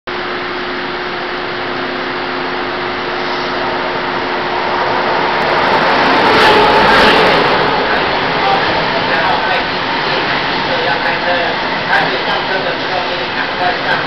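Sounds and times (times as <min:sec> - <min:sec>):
train rumbling: 0:00.1 - 0:14.0.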